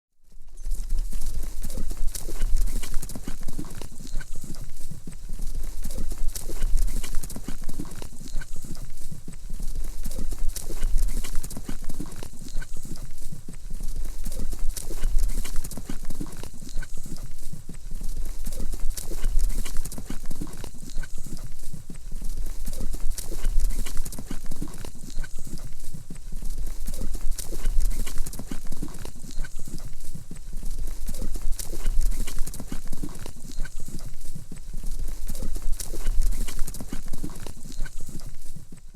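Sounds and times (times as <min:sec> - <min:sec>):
horse hooves galloping: 0:00.4 - 0:38.9.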